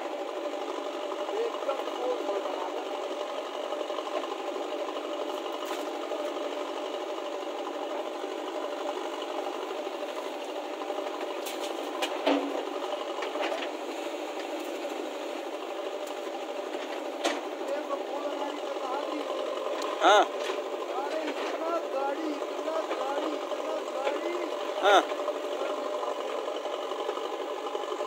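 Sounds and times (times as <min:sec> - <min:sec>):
diesel engine rattling: 0:00.0 - 0:28.0.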